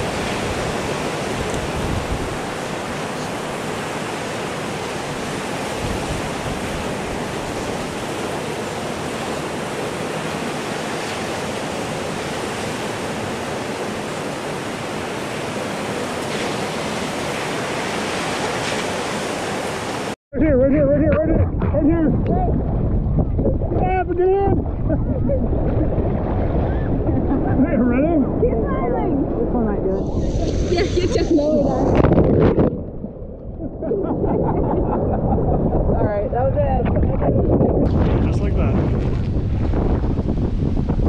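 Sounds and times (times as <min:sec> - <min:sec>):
ocean waves breaking: 0:00.0 - 0:20.2, 0:21.1 - 0:41.0.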